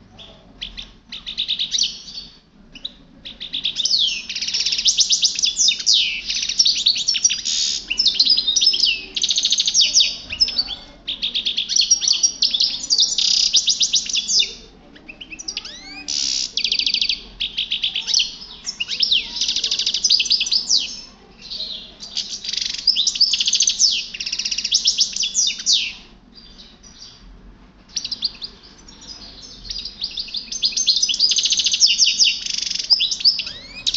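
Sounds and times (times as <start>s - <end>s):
goldfinch singing: 0.2s - 27.2s, 27.9s - 33.9s.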